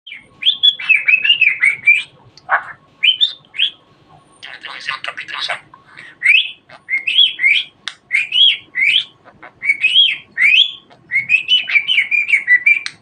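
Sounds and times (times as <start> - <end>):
budgerigar chirping and warbling: 0.1 - 13.0.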